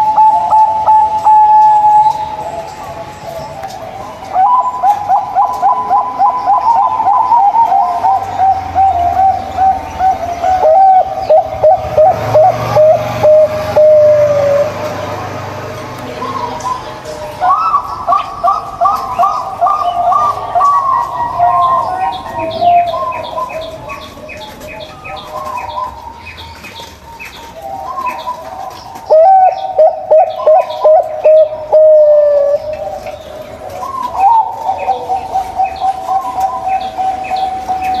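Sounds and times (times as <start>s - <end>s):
doves cooing: 0.0s - 38.0s.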